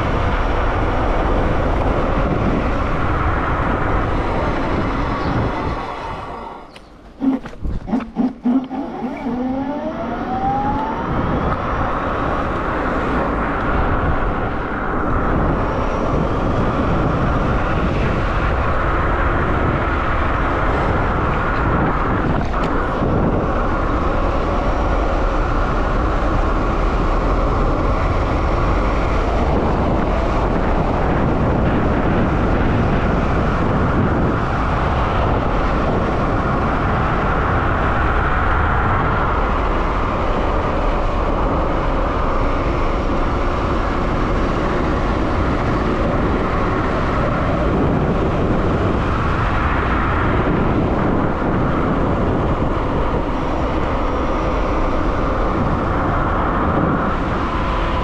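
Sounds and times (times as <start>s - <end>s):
electric scooter whine: 0.0s - 58.0s
wind rush over microphone: 0.0s - 58.0s.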